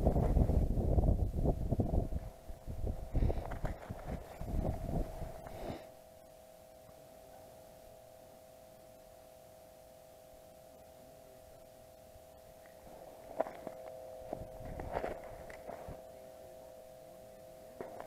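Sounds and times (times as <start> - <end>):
faint electronic hum: 0.0 - 18.0.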